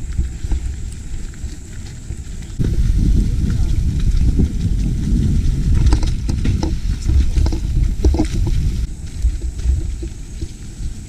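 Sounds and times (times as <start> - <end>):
bike tyres rumbling over rocks: 0.0 - 11.0.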